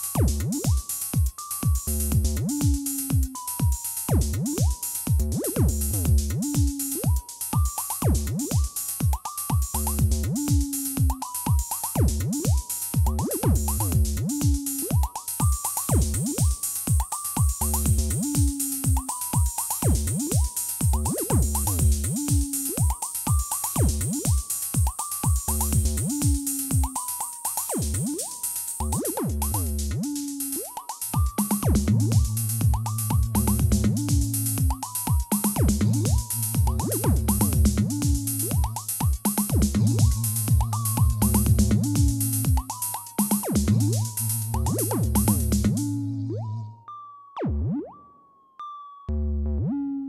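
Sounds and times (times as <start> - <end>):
kick drum beat: 0.0 - 27.0, 31.2 - 45.8
hi-hats: 0.0 - 46.0.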